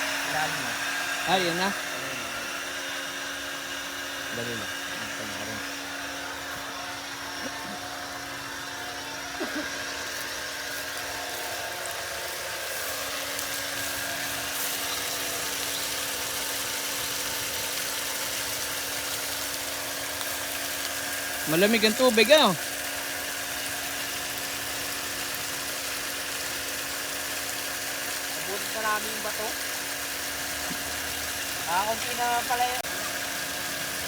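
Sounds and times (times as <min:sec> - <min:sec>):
small engine whining: 0:00.0 - 0:34.0.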